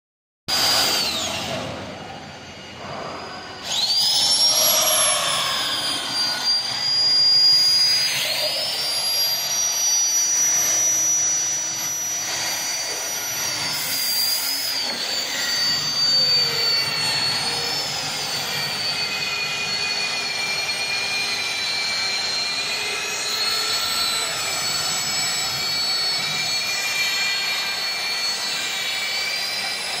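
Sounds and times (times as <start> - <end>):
drill motor spinning up: 0.5 - 30.0
drill motors whining: 0.5 - 30.0.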